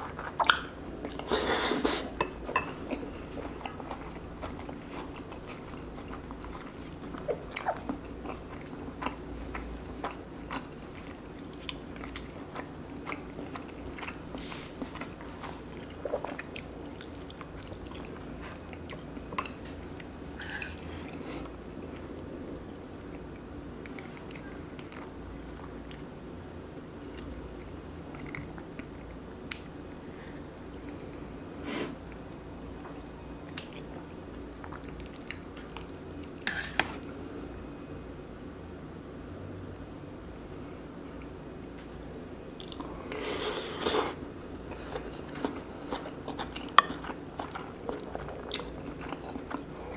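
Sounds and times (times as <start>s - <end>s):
person chewing food: 0.0s - 26.1s, 27.0s - 37.2s, 40.6s - 49.9s.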